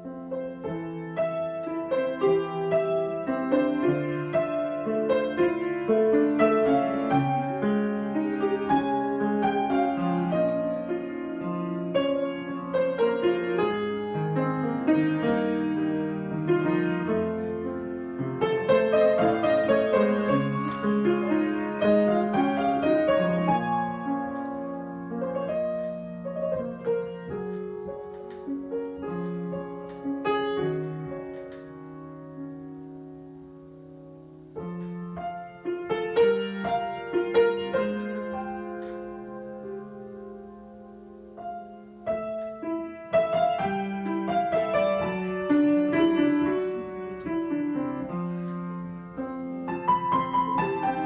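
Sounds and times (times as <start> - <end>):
solo piano playing: 0.0 - 51.0.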